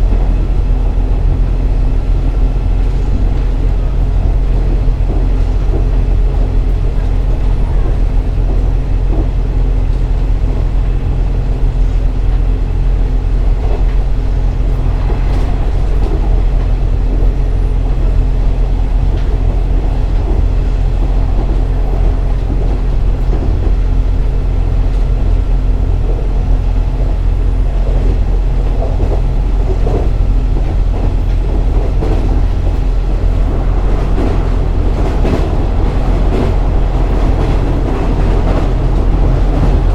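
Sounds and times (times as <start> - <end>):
diesel engine humming: 0.0 - 39.9
train running rumble: 0.0 - 39.9.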